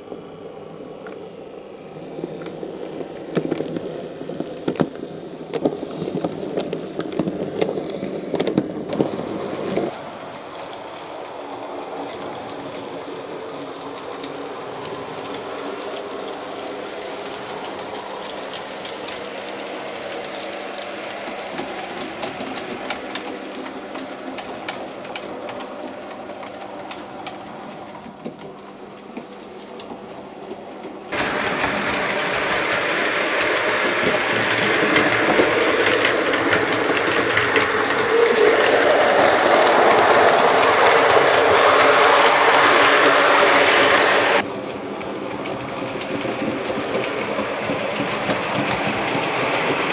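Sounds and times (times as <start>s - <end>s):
train wheels clicking on track: 0.0s - 49.9s.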